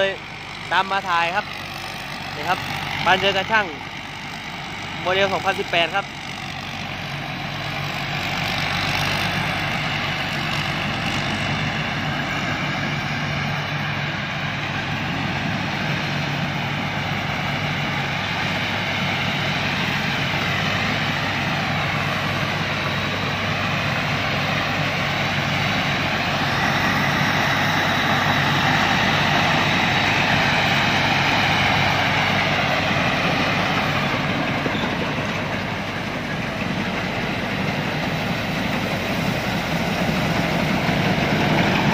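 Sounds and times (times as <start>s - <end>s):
combine harvester engine droning: 0.0s - 41.9s.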